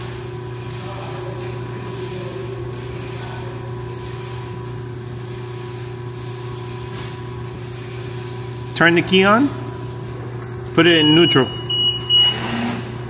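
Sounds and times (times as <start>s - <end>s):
high-pitched whine: 0.0s - 13.0s
machinery hum: 0.0s - 13.0s.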